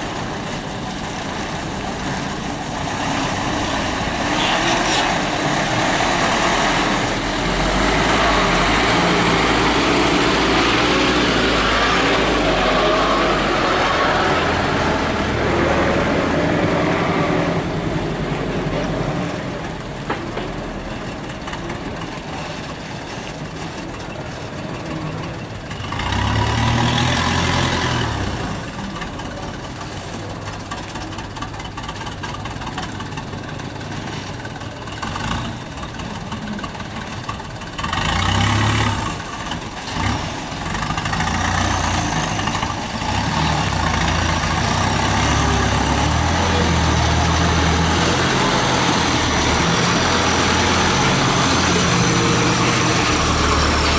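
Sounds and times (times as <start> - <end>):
heavy truck engines running: 0.0 - 53.9.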